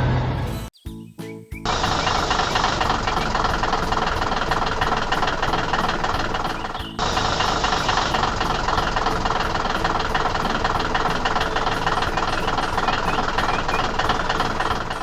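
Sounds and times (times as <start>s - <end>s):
heavy vehicle engine rumbling: 1.7s - 15.0s.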